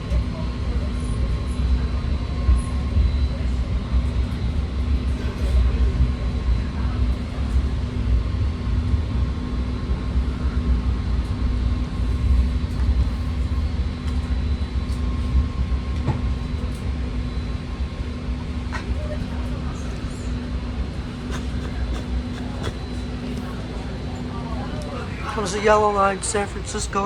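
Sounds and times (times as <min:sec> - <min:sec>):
train cabin low rumble: 0:00.0 - 0:27.0
electrical hum: 0:00.5 - 0:27.0.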